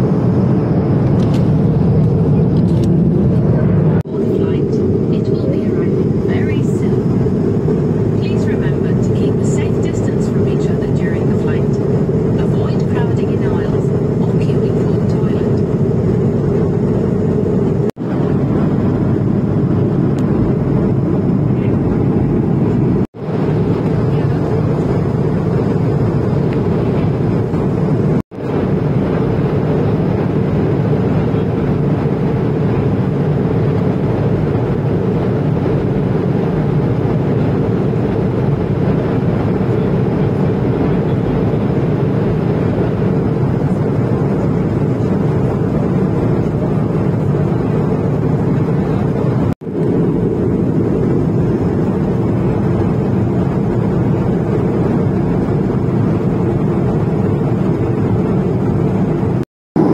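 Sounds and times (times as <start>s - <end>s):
airliner cabin airflow and engines: 0.0s - 59.9s.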